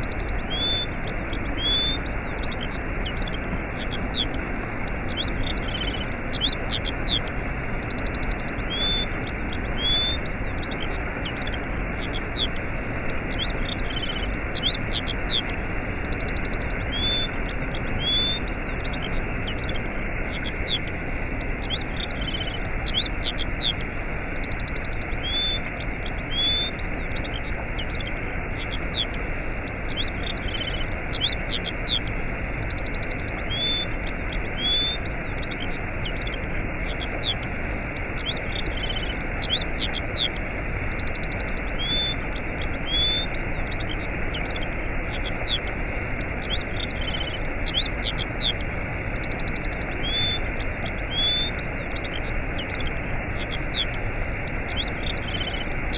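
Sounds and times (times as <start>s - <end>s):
small birds chirping: 0.0s - 55.9s
waterfall rushing: 0.1s - 55.9s.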